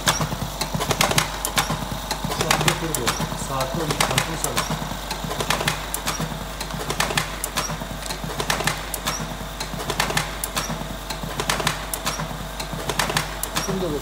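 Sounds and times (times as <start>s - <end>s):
machine mechanism clicking: 0.0s - 14.0s
steady low hum: 0.0s - 14.0s.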